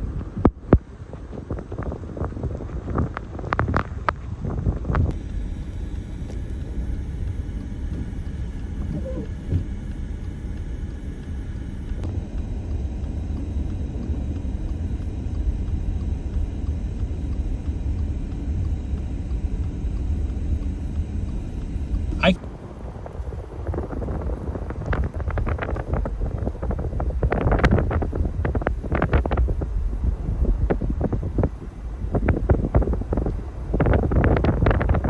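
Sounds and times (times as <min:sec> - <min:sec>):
car driving rumble: 0:05.1 - 0:35.0.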